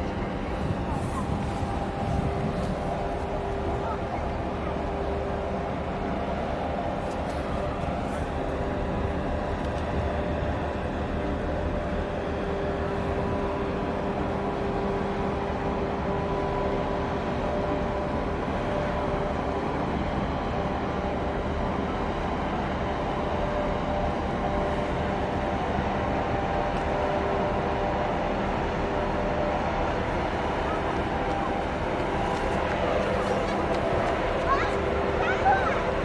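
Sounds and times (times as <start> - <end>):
ship engine droning: 0.0 - 36.0.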